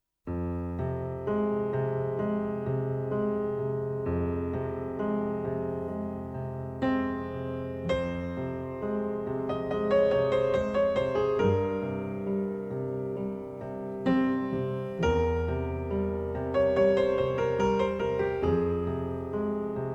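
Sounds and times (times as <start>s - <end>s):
piano music: 0.3s - 19.9s.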